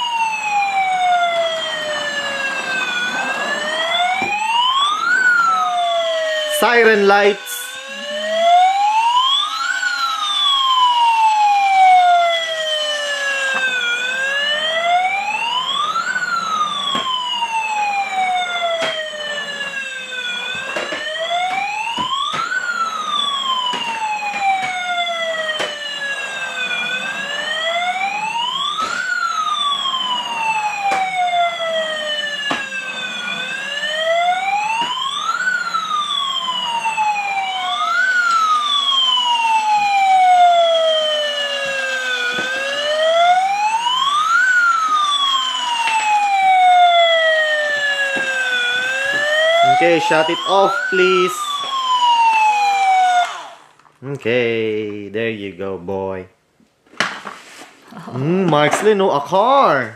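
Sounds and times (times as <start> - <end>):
toy siren wailing: 0.0 - 53.8.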